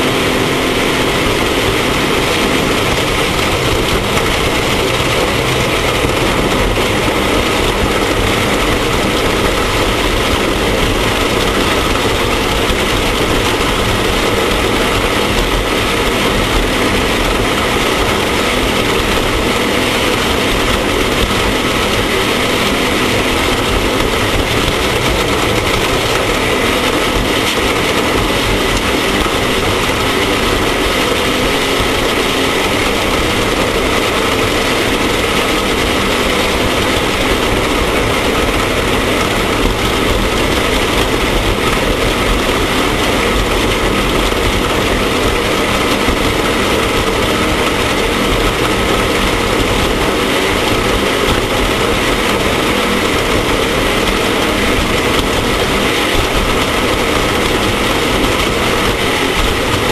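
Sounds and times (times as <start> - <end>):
dense rushing noise: 0.0 - 59.9
race vehicle engine running loudly: 0.0 - 59.9.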